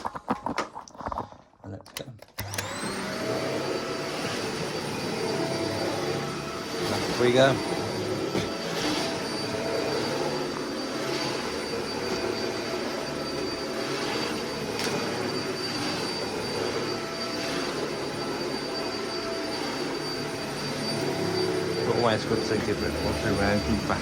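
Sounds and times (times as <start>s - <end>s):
vacuum cleaner on carpet: 2.4s - 24.0s.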